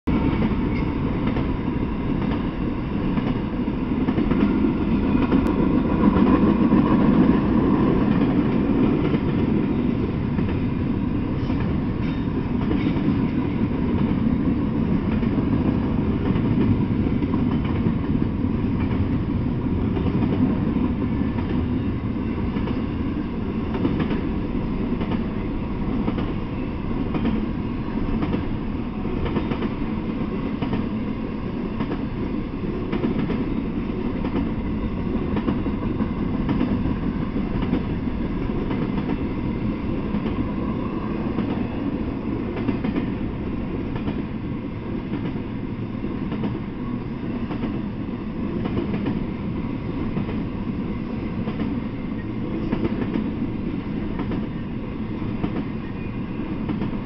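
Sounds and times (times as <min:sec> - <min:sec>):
freight train wheels on rails: 0:00.1 - 0:57.0.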